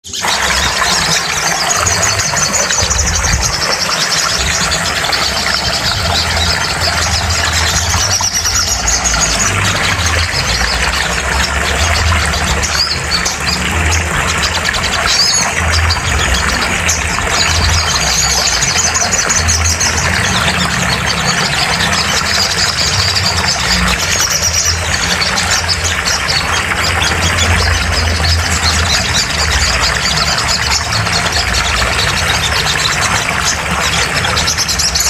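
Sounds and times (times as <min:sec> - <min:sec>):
birds chirping trills: 0:00.0 - 0:35.0.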